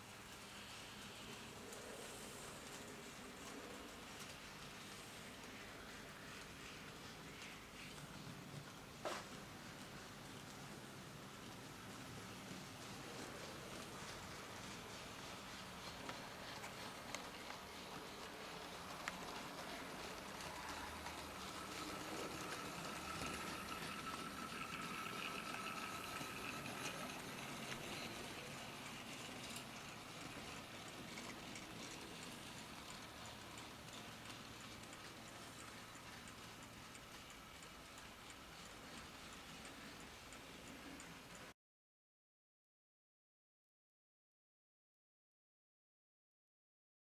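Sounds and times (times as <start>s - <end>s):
faint motor whine: 0.0s - 41.5s
model train wheels clicking: 0.0s - 41.5s.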